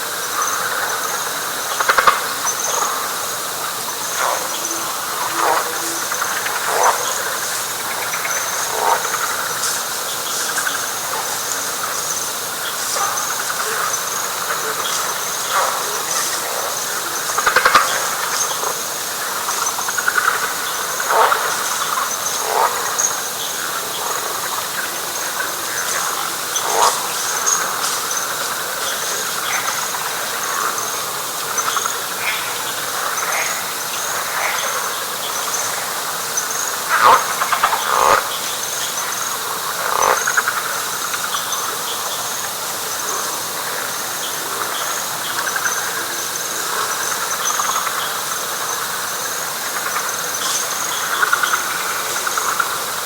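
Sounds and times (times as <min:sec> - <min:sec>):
frog chorus: 0:00.0 - 0:53.0
high insect trill: 0:00.0 - 0:53.0.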